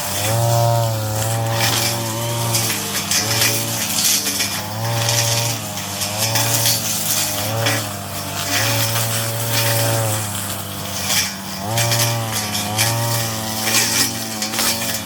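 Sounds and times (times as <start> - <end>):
brush cutter engine revving: 0.0 - 15.0
hiss of cutting weeds: 0.0 - 15.0.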